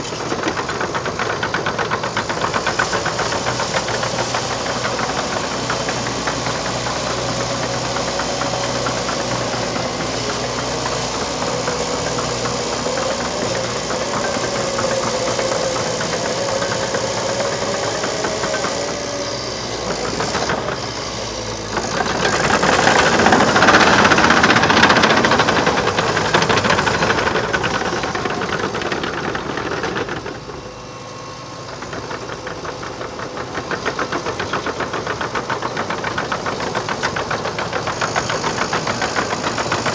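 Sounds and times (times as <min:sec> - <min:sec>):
dozer diesel engine under load: 0:00.0 - 0:39.9.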